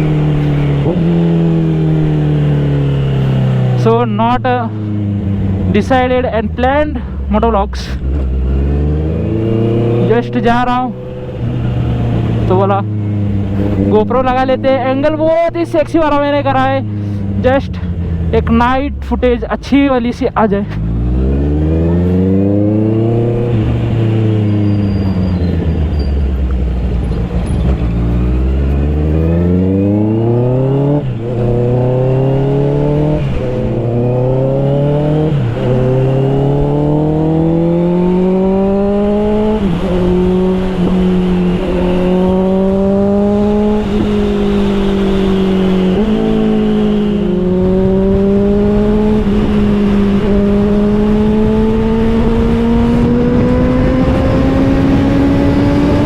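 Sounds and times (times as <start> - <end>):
motorcycle engine accelerating: 0.0 - 19.9, 20.6 - 56.0.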